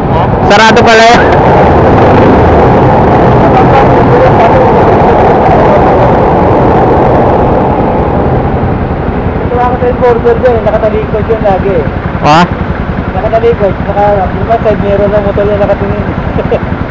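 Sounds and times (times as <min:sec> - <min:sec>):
motorcycle engine rumble: 0:00.0 - 0:16.9
road traffic: 0:00.0 - 0:16.9.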